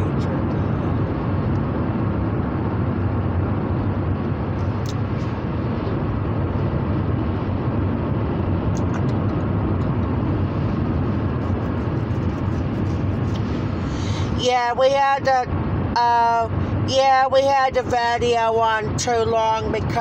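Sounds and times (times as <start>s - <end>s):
car cabin road and engine rumble: 0.0s - 20.0s.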